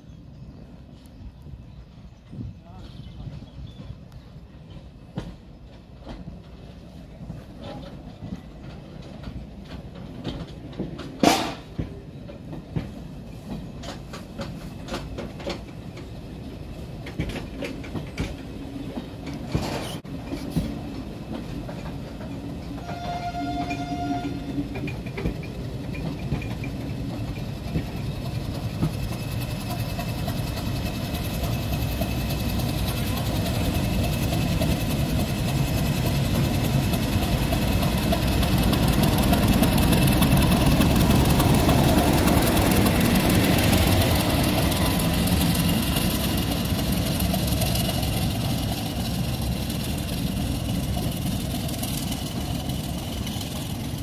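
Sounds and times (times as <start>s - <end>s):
diesel locomotive engine rumble: 0.0s - 54.0s
wheels clicking over rail joints: 2.6s - 54.0s.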